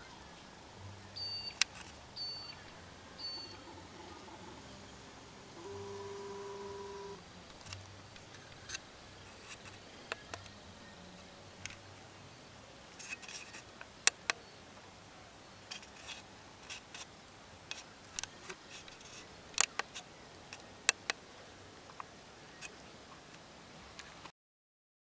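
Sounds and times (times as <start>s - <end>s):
faint hiss: 0.0s - 24.3s.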